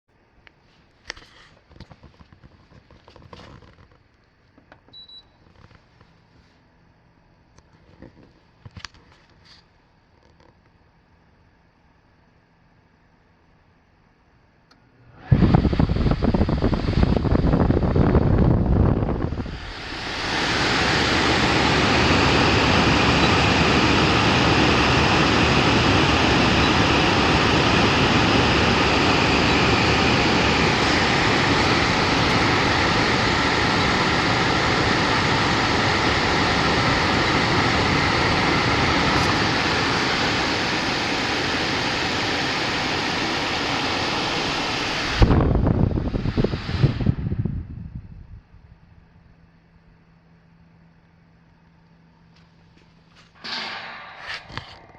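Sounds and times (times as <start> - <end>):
faint hum: 0.1 - 54.9
air conditioner fan blowing: 0.2 - 54.9.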